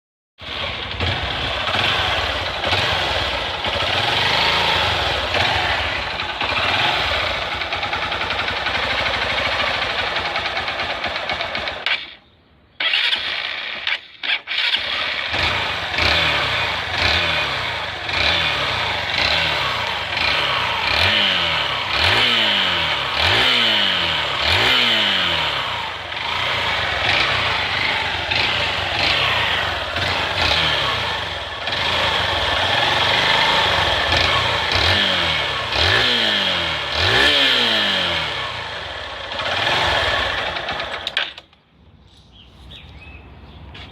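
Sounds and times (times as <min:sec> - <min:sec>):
motorcycle engine revving: 0:00.4 - 0:12.2, 0:12.8 - 0:41.6.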